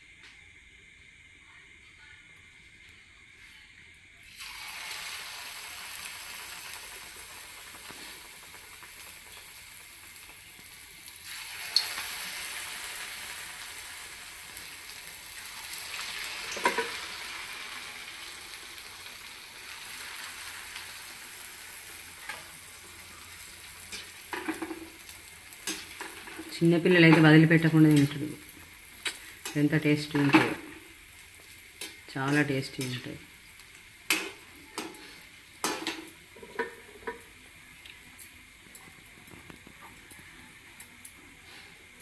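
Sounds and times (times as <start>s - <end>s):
food deep-frying in hot oil: 4.1s - 42.0s.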